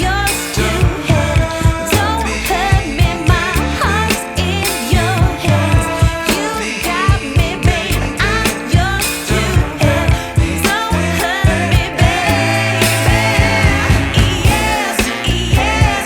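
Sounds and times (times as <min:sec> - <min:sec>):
person singing: 0:00.0 - 0:16.0
pop song with drum beat: 0:00.0 - 0:16.0.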